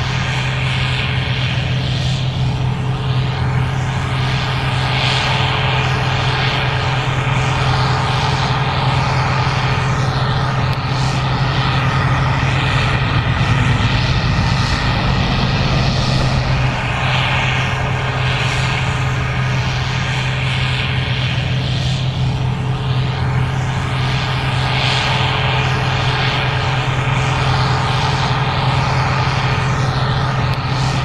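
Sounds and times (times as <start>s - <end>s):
combine harvester drone: 0.0s - 31.0s.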